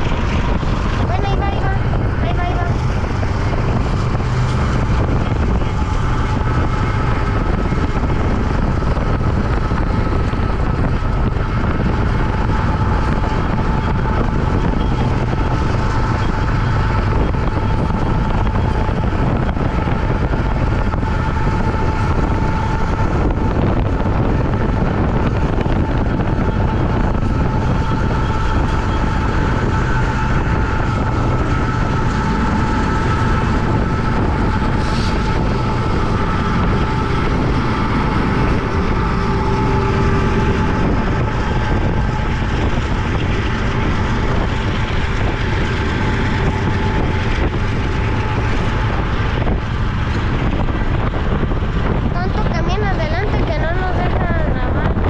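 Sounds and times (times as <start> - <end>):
freight train rumbling past: 0.0 - 55.0
steady hum: 0.0 - 55.0.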